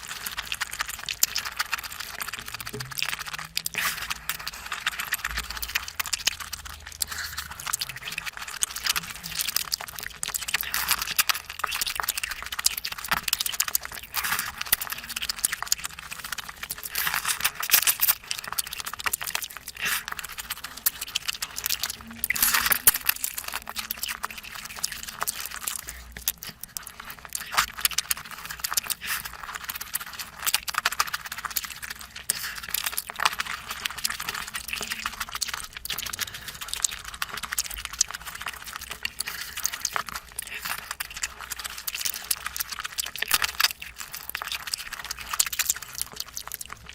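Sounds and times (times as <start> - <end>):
lip-smacking: 0.0 - 46.9
wet chewing: 0.0 - 46.9.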